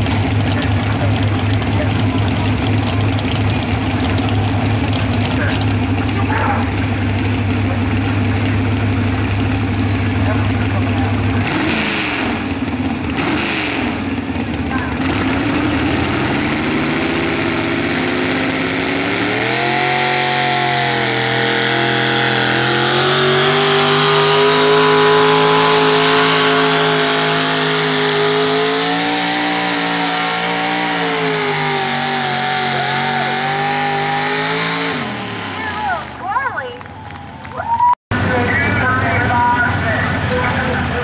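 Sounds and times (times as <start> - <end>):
truck engine at high revs: 0.0 - 41.0.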